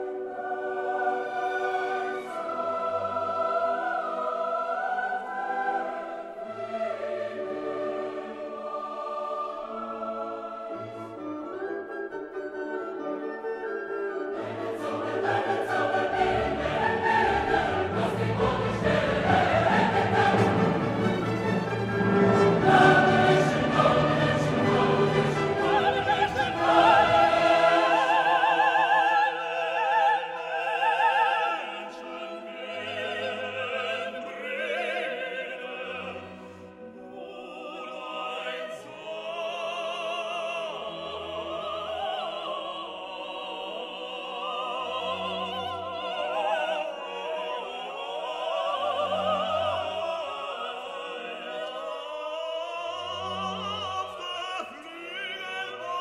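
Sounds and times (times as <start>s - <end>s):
operatic singing: 0.0s - 12.0s, 14.3s - 56.0s
orchestral music: 0.0s - 56.0s.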